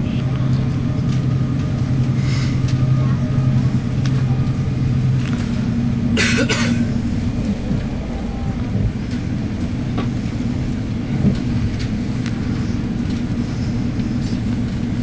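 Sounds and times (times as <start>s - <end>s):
train rumbling from inside: 0.0s - 15.0s.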